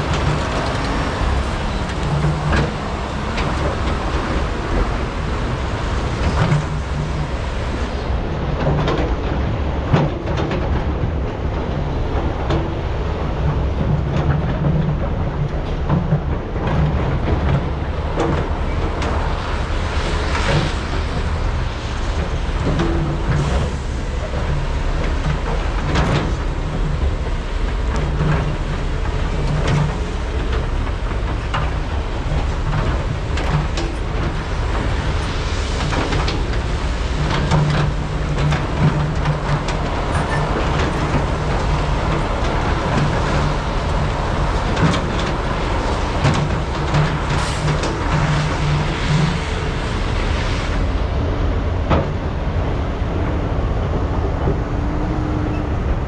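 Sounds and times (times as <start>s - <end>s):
excavator diesel engines droning: 0.0s - 56.0s.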